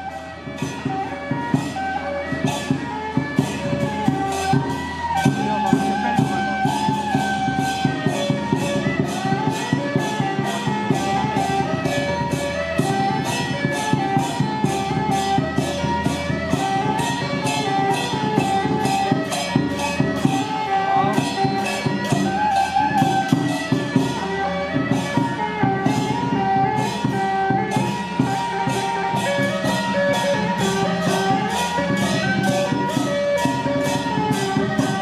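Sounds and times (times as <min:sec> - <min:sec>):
cymbal and drum beats: 0:00.0 - 0:35.0
held-note melody: 0:00.0 - 0:35.0.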